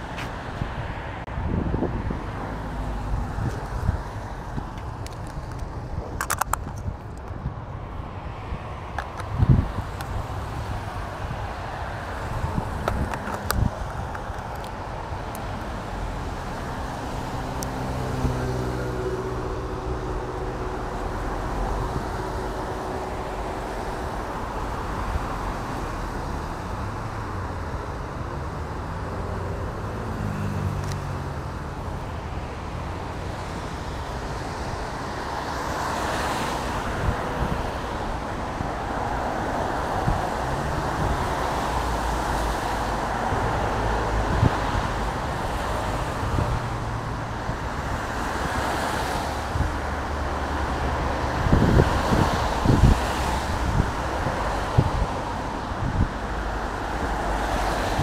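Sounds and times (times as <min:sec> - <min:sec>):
road noise: 0:00.0 - 0:58.0
vehicles passing: 0:00.0 - 0:58.0.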